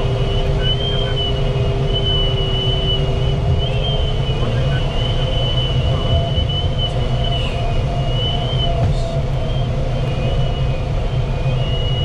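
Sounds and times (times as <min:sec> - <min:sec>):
high wavering whistle: 0:00.2 - 0:12.0.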